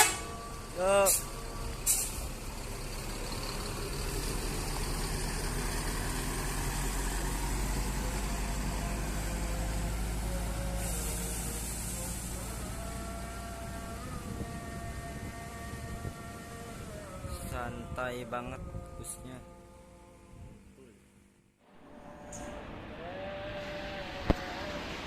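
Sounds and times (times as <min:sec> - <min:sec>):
bus diesel engine rumbling: 0:00.0 - 0:25.0.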